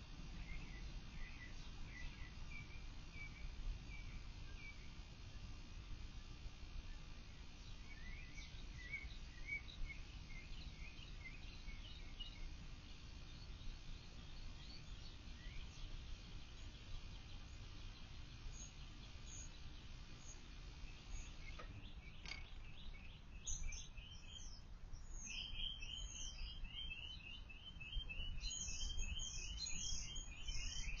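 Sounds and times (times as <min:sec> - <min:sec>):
low steady background hum: 0:00.0 - 0:31.0
songbirds chirping and singing: 0:00.0 - 0:31.0.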